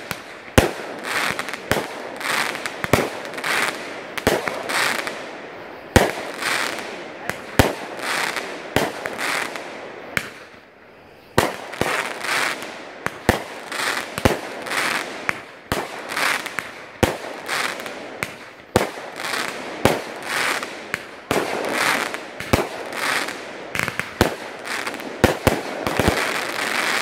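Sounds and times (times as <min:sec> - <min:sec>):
crackling firework stars: 0:00.0 - 0:27.0.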